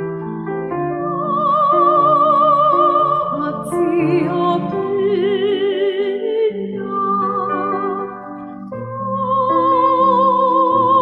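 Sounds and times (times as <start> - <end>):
person singing with vibrato: 0.9 - 11.0.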